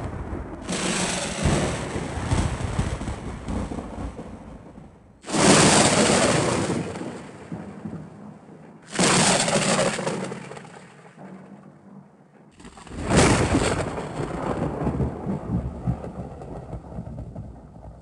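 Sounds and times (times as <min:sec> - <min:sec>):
loud thunderclaps: 0:00.0 - 0:18.0
thunder rumble: 0:00.0 - 0:18.0.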